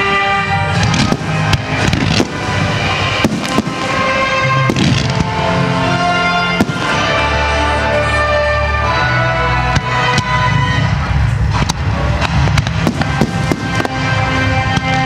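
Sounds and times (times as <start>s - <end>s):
fireworks bangs and crackles: 0.0s - 8.4s, 9.6s - 15.0s
music with sustained chords: 0.0s - 15.0s.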